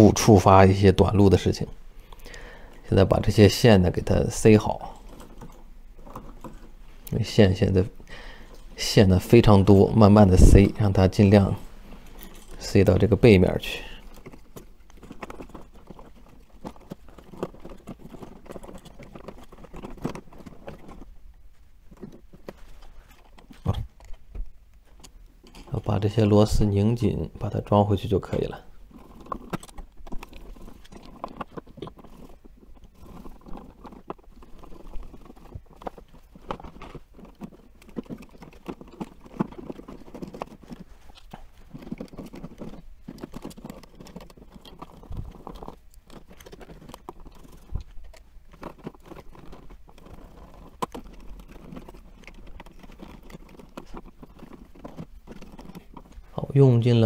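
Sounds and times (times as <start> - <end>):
wires scraping and crackling: 0.0 - 57.0.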